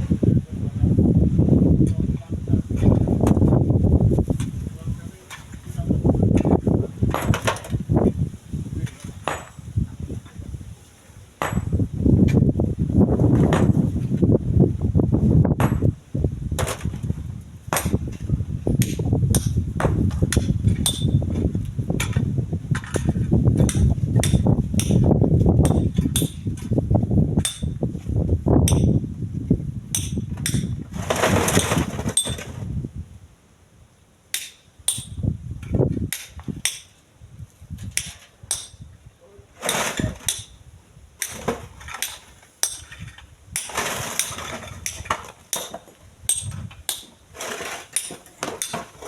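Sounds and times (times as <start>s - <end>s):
wind buffeting microphone: 0.0s - 33.3s, 34.9s - 39.1s, 39.9s - 45.2s, 46.0s - 47.0s.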